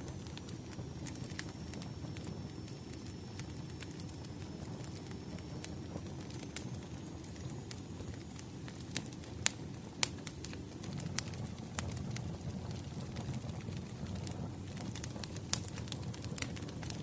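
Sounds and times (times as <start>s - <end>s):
burning logs rumbling: 0.0s - 17.0s
fire pops and snaps: 0.0s - 17.0s.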